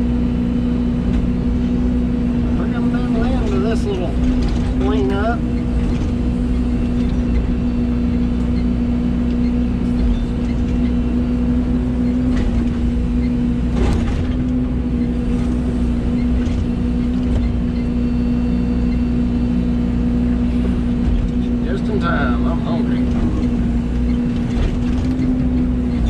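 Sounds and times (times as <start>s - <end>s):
excavator diesel engine droning: 0.0s - 26.0s.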